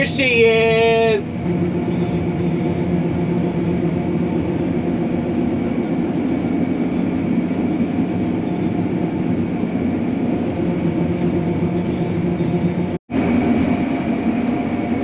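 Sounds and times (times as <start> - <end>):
combine machinery drone: 0.0 - 15.0
high steady whine: 0.0 - 15.0.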